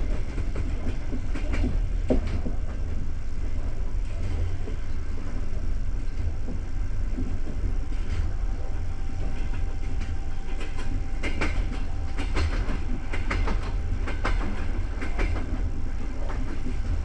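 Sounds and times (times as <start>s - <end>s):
railway carriage rumbling: 0.0s - 17.0s
wheel clacks over rail joints: 0.0s - 17.0s.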